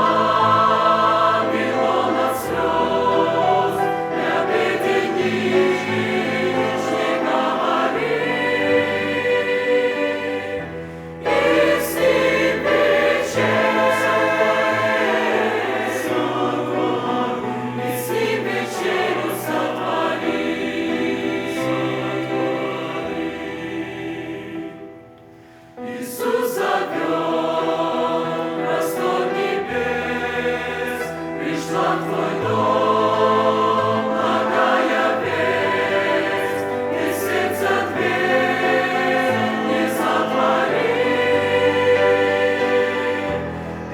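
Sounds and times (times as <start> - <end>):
church choir singing a hymn: 0.0 - 43.9.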